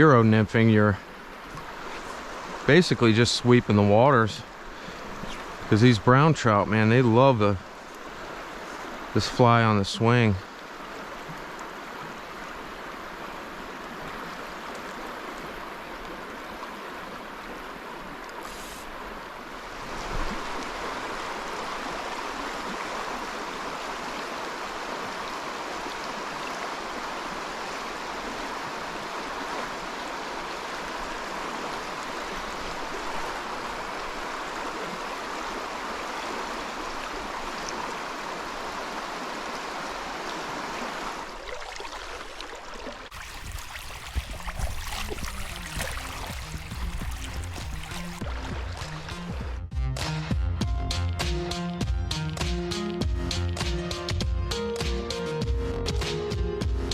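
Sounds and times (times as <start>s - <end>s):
creek water rushing: 0.0s - 49.4s.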